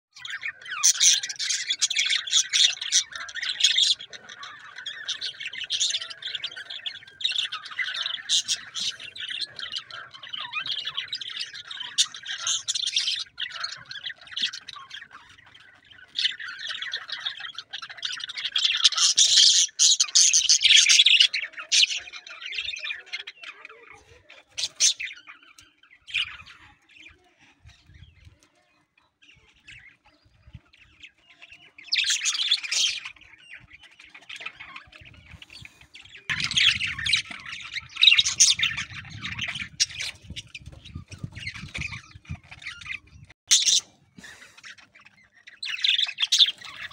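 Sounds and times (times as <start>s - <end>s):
budgerigars chattering and warbling: 0.2s - 46.9s.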